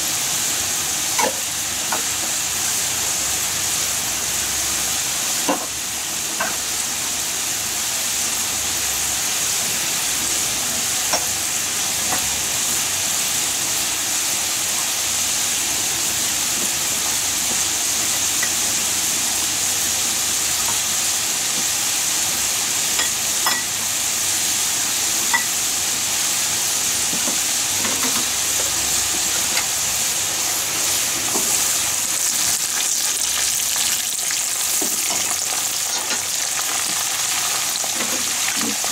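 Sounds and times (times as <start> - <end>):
potatoes deep-frying in oil: 0.0 - 38.9.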